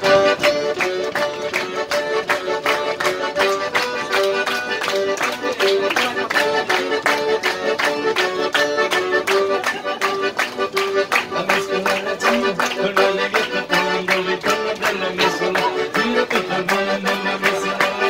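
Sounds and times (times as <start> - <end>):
accordion playing fast tarantella: 0.0 - 18.0.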